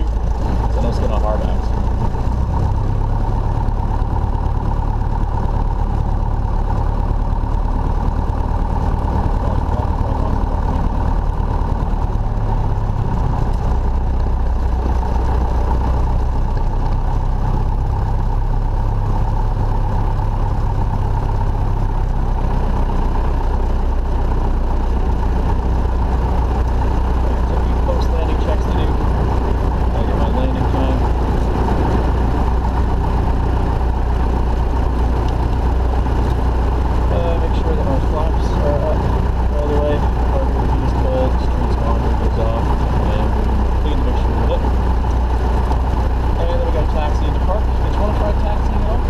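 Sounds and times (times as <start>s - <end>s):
propeller plane engine droning: 0.0s - 49.0s.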